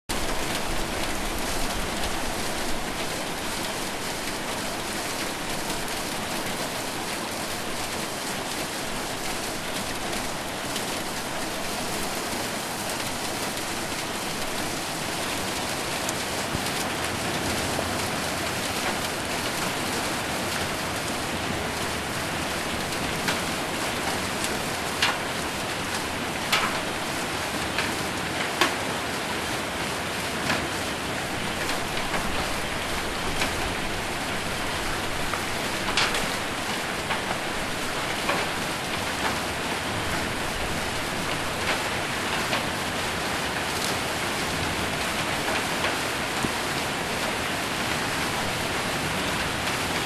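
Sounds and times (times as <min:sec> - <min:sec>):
heavy rain on a roof: 0:00.0 - 0:50.0
hailstones ticking on a roof: 0:00.1 - 0:50.0.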